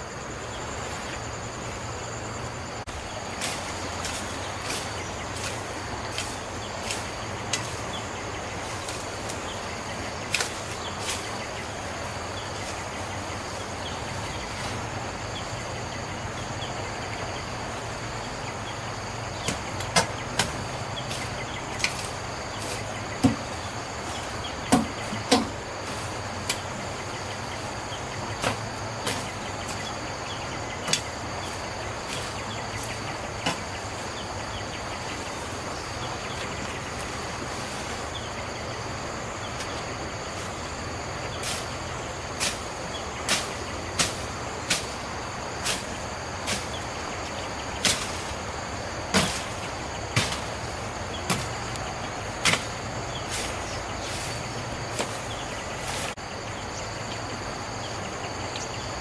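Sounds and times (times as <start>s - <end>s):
steady background noise: 0.0s - 59.0s.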